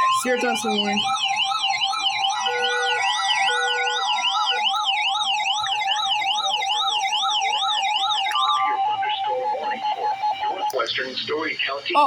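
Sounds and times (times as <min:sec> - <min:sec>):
siren-like warble: 0:00.0 - 0:10.8.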